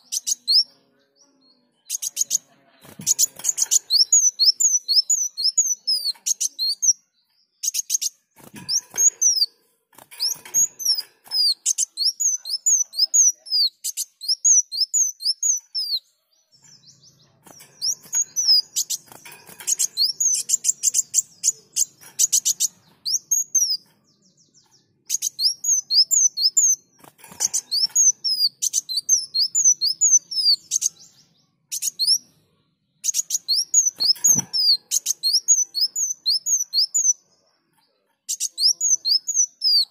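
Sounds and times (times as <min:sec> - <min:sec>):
sunbird singing: 0:00.0 - 0:37.3, 0:37.9 - 0:39.9.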